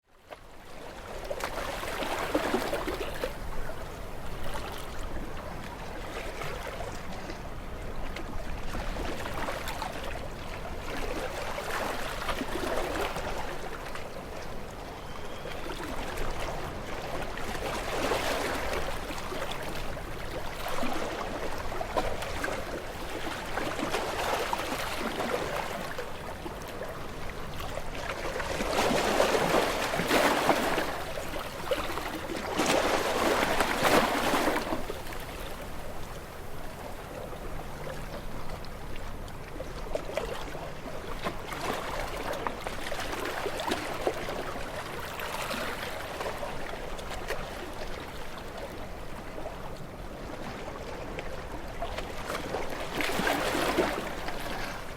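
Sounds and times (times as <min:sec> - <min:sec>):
ocean waves washing on shore: 0:00.6 - 0:54.9.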